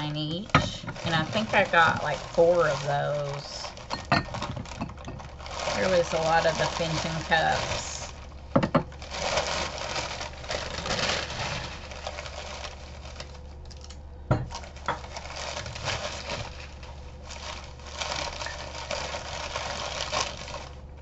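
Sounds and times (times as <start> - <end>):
newspaper rustling and crinkling: 0.0 - 13.9, 14.5 - 21.0.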